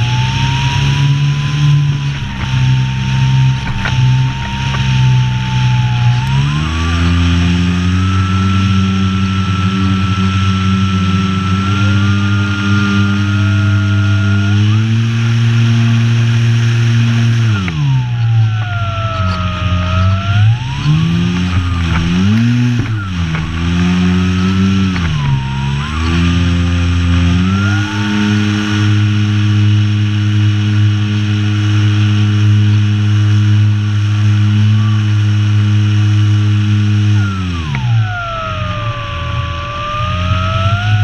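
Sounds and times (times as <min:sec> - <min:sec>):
model plane propeller buzz and whine: 0:00.0 - 0:41.0.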